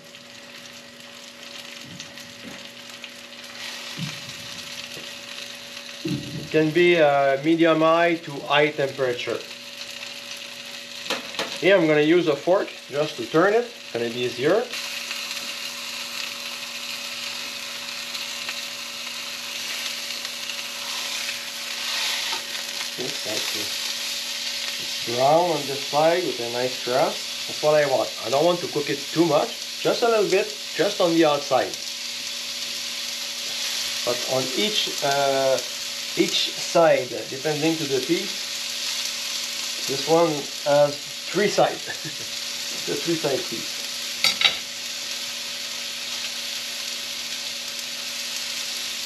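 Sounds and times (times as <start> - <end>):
meat sizzling in a frying pan: 0.0 - 49.0.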